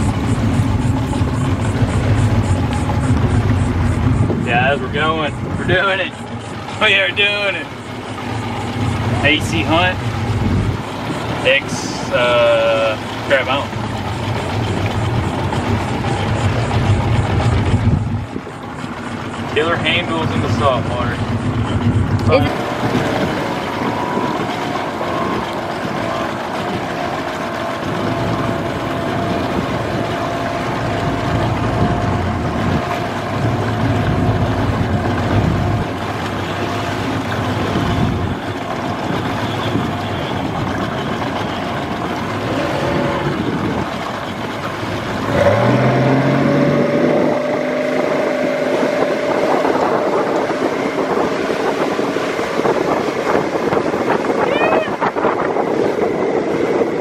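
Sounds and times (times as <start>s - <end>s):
boat motor running: 0.0s - 57.0s
water rushing: 0.0s - 57.0s
wind: 0.0s - 57.0s.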